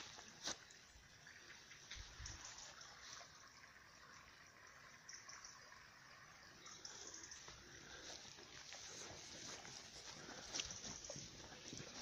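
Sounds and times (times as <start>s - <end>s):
running river water: 0.0s - 12.0s.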